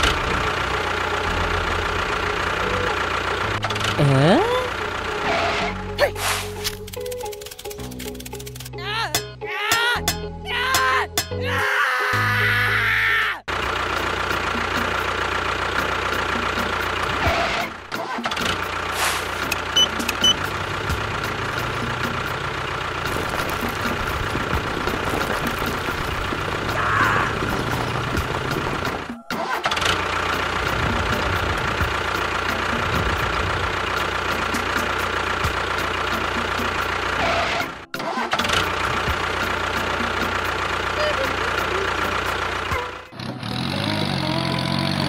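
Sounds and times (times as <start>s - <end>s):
engine running: 0.0s - 8.8s, 13.5s - 45.0s.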